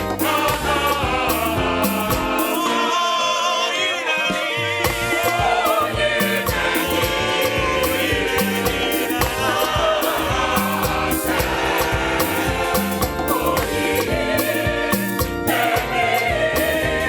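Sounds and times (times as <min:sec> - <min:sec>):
band accompaniment: 0:00.0 - 0:03.0, 0:04.0 - 0:17.0
choir singing gospel music: 0:00.0 - 0:17.0.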